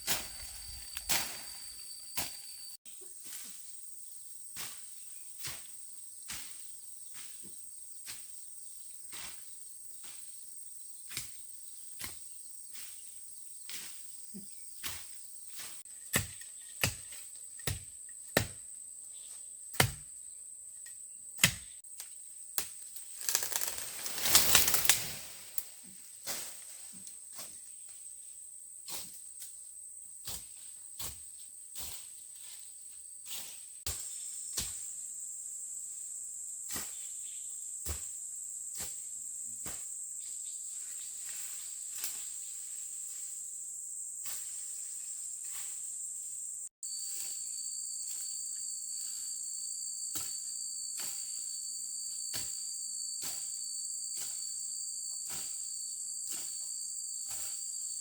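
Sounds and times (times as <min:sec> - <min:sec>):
insects chirring: 0:00.0 - 0:58.0
lower insect tone: 0:00.0 - 0:58.0.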